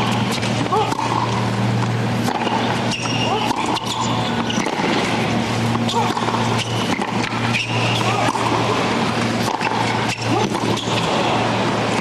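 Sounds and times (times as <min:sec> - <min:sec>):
shoes squeaking on court: 0:00.0 - 0:12.0
steady low hum: 0:00.0 - 0:12.0
tennis racquets hitting ball: 0:00.0 - 0:12.0.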